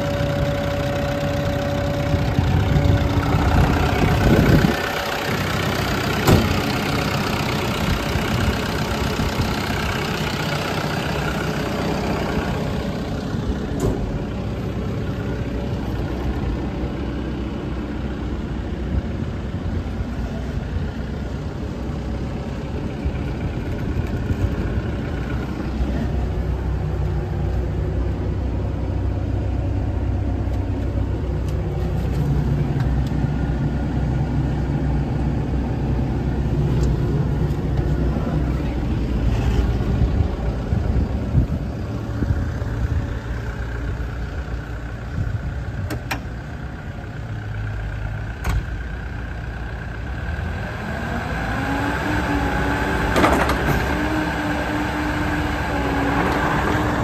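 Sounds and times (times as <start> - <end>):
excavator diesel engine idling: 0.0 - 57.0.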